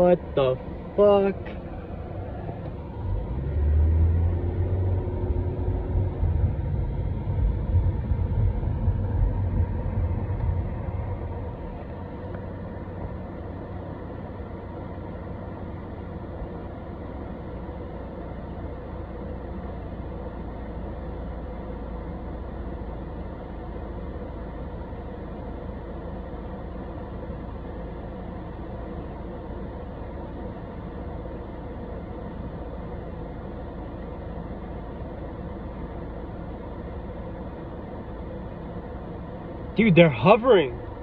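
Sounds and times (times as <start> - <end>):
vehicle engine rumbling: 0.0 - 41.0.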